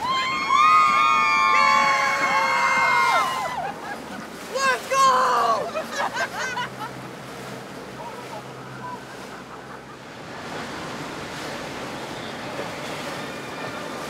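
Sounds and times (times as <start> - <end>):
boat wash on water: 0.0 - 14.0.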